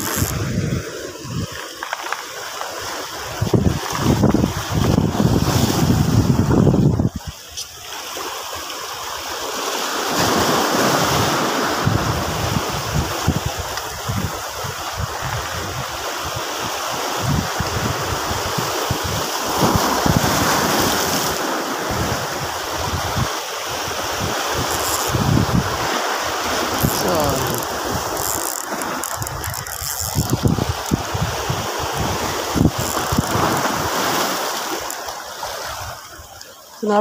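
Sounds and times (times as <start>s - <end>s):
wind buffeting microphone: 0.0s - 1.7s, 3.0s - 7.8s, 10.2s - 36.3s
waves washing over rocks: 0.0s - 37.0s.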